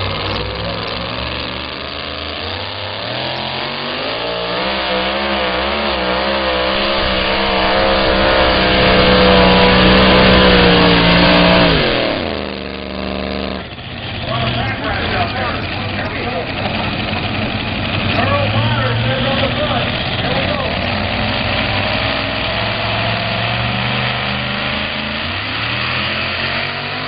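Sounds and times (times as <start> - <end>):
truck engine revving at full throttle: 0.0 - 27.0.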